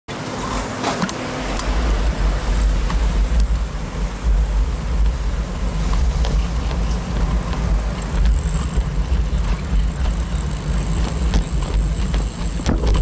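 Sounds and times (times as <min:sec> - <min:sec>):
road traffic: 0:00.1 - 0:13.0
wind rumbling on microphone: 0:01.4 - 0:13.0.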